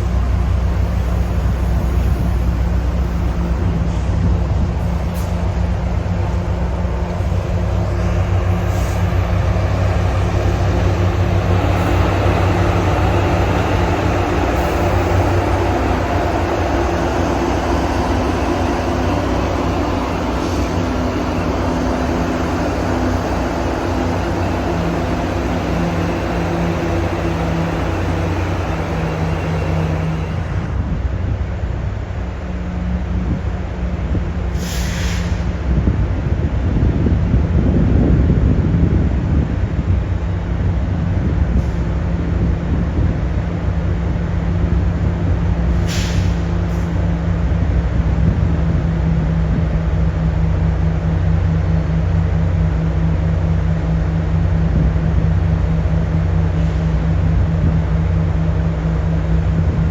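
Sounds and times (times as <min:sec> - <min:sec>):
train engine hum: 0:00.0 - 0:59.9.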